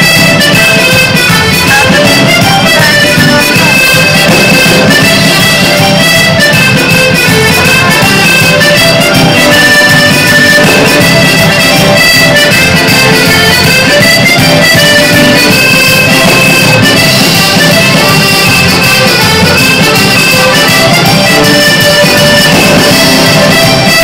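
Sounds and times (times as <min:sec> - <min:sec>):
accordions playing: 0:00.0 - 0:24.0
live band dance music: 0:00.0 - 0:24.0.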